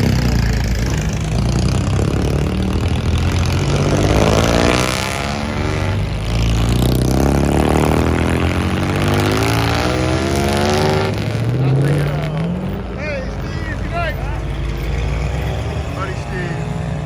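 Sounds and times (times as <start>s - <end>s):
car engines rumbling: 0.0s - 17.0s
engines pulling away: 0.0s - 17.0s.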